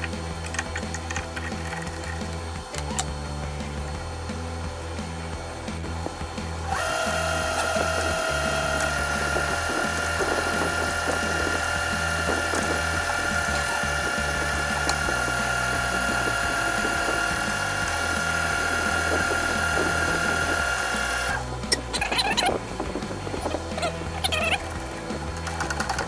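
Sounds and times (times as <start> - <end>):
metal lathe whine: 0.0 - 25.8.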